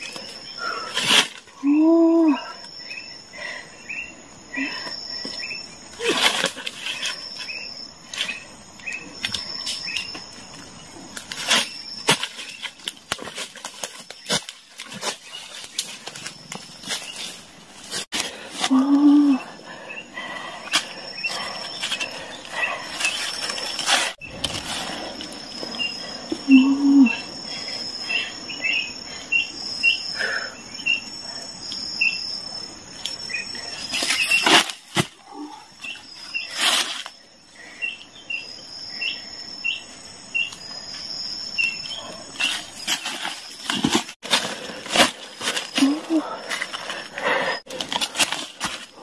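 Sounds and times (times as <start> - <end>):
insects chirping: 0.0 - 49.0.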